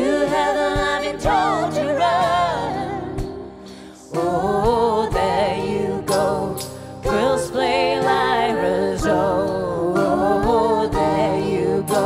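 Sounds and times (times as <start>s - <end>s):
woman singing with vibrato: 0.0s - 3.2s, 4.1s - 12.0s.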